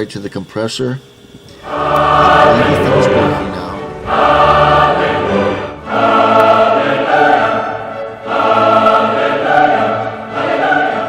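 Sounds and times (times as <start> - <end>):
choir holding long chords: 1.5 - 11.0.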